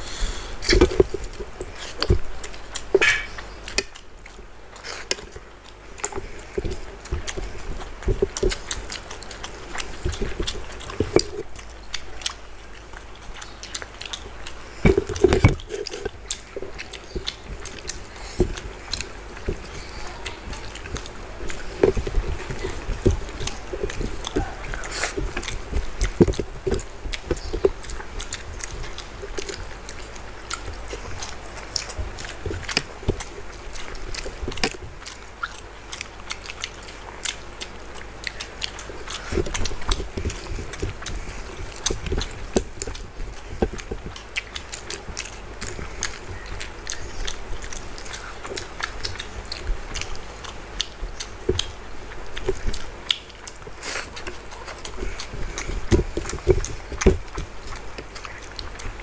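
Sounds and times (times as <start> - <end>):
chewing and lip-smacking: 0.0 - 59.0.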